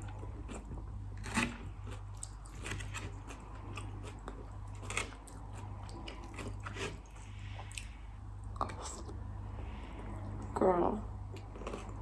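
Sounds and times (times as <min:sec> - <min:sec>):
mouth chewing crunchy food: 0:00.0 - 0:12.0.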